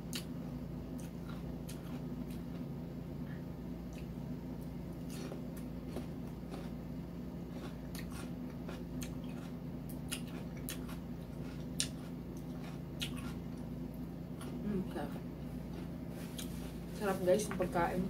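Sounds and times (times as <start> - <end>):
steady low hum: 0.0 - 18.0
person chewing: 0.1 - 2.7, 3.8 - 16.9.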